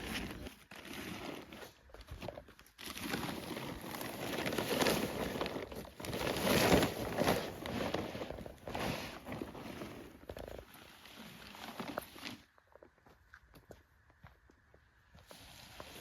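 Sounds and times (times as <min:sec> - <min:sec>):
tent fabric rustling: 0:00.0 - 0:12.5, 0:15.2 - 0:16.0.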